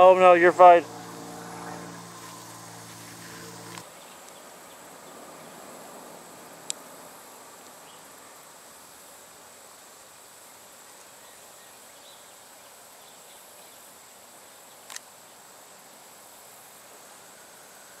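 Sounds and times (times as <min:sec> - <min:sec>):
faint insect chirps: 0:00.0 - 0:18.0
insect drone: 0:00.0 - 0:18.0
outdoor hiss: 0:00.0 - 0:18.0.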